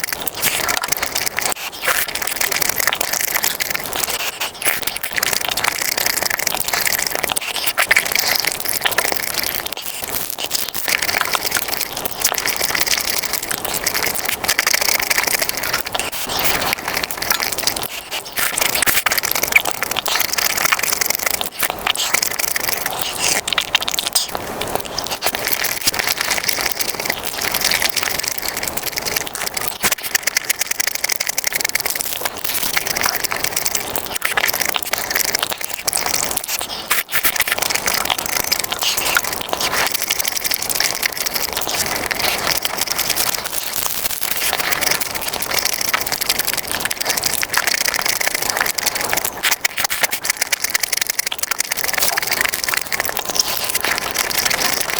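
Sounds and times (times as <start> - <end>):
crunching and chewing: 0.0 - 54.9.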